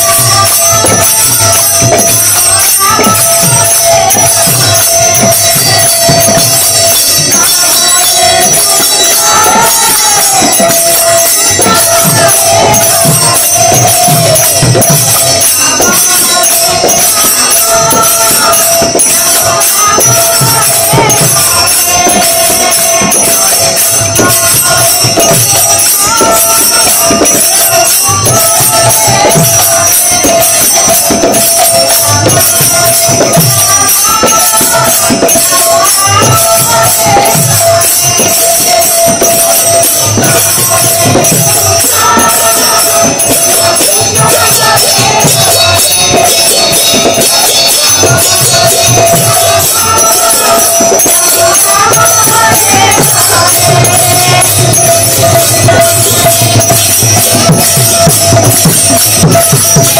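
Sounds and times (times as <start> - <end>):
woman singing: 0.0 - 57.7
hand cymbals jingling: 0.0 - 59.9.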